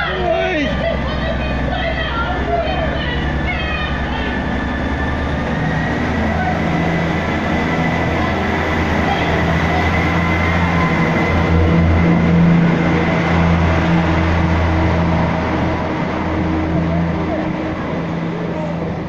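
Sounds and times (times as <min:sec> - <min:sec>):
diesel train engine drone: 0:00.0 - 0:19.0.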